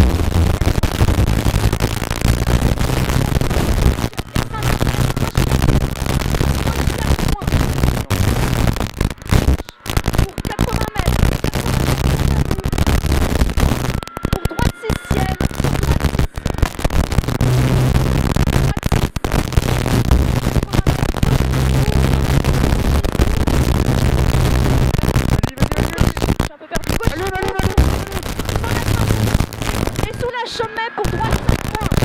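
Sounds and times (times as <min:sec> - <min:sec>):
sharp cracks: 0:00.0 - 0:30.3, 0:31.0 - 0:32.0.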